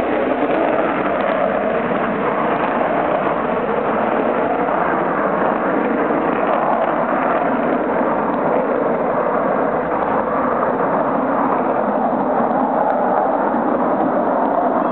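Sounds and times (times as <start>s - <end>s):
jet engines rushing at takeoff: 0.0s - 14.9s.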